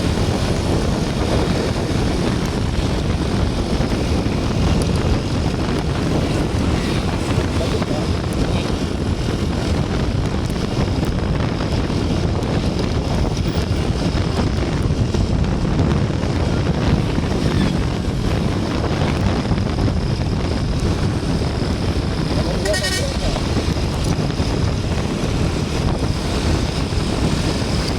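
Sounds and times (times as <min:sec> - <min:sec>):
road noise: 0:00.0 - 0:27.9
vehicle engine rumble: 0:00.0 - 0:27.9
wind buffeting microphone: 0:00.0 - 0:27.9.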